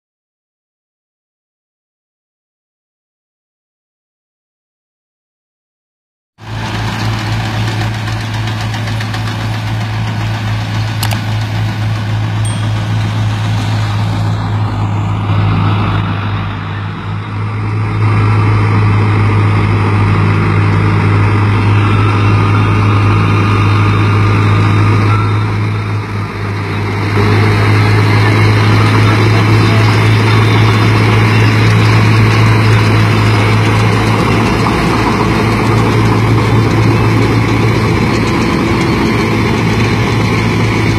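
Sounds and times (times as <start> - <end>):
tractor diesel engine under load: 6.4 - 40.9.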